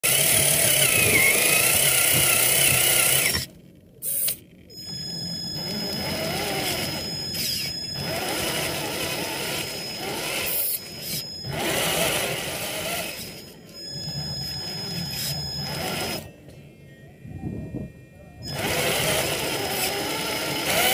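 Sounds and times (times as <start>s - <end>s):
electric motor and gears whining: 0.0s - 16.7s, 17.4s - 20.9s.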